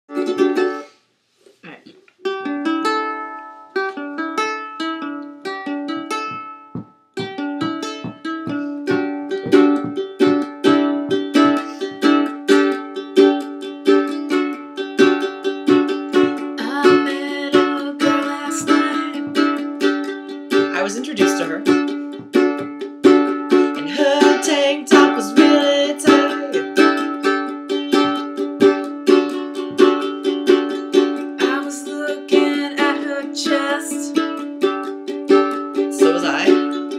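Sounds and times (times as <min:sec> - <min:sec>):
ukulele notes plucked: 0:00.1 - 0:00.9, 0:02.2 - 0:36.9
ukulele strumming chords: 0:00.1 - 0:01.0, 0:02.2 - 0:36.9.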